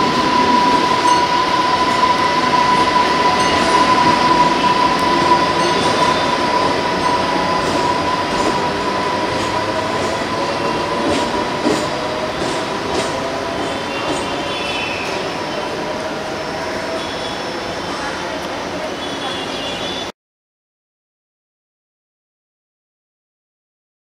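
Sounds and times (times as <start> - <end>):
train wheels rumbling on rail: 0.0 - 20.0
high train whine: 0.0 - 20.1.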